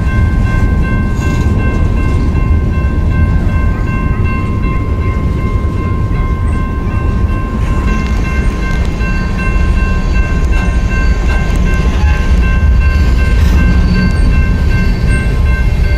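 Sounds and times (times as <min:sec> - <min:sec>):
high ringing tones: 0:00.0 - 0:15.9
train rumbling by: 0:00.0 - 0:15.9.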